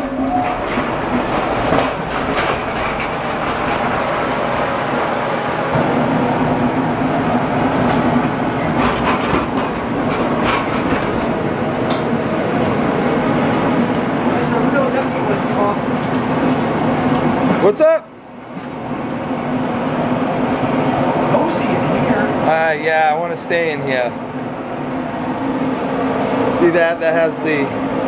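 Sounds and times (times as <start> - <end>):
space heater fan whirring: 0.0 - 28.0.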